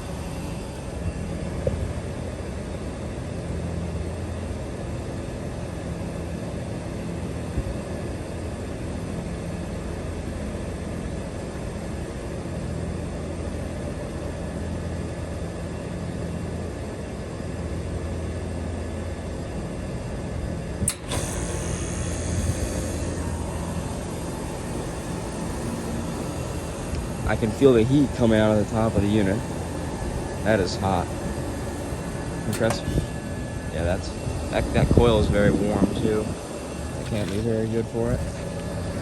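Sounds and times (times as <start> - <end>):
air conditioner fan blowing: 0.0 - 39.0
compressor hum: 0.0 - 39.0.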